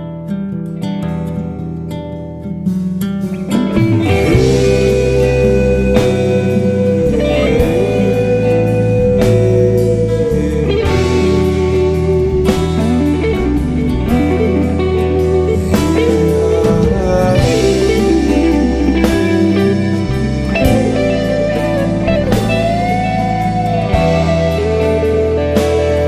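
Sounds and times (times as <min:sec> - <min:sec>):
gliding lead guitar: 0:00.0 - 0:26.0
bass and steady beat: 0:02.7 - 0:26.0.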